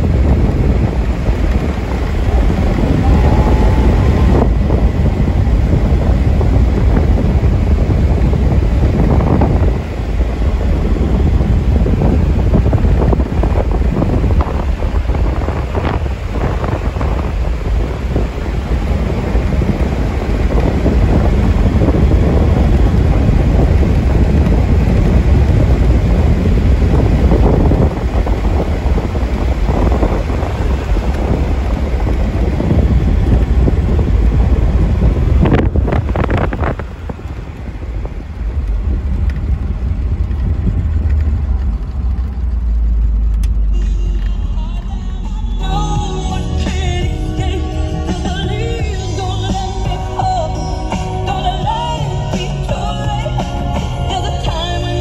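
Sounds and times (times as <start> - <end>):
car engine running: 0.0 - 55.0
road noise inside car: 0.0 - 55.0
wind buffeting microphone: 0.0 - 55.0.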